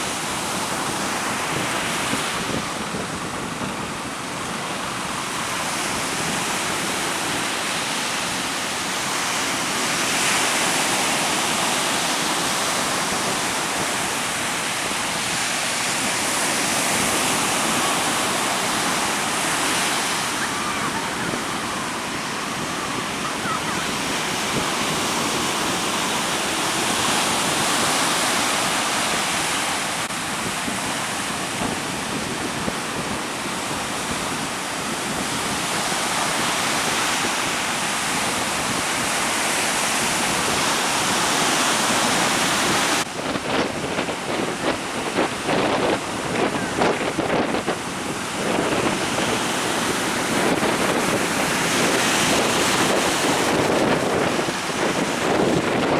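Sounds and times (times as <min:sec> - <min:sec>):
waves breaking: 0:00.0 - 0:55.9
strong wind buffeting: 0:00.1 - 0:55.9.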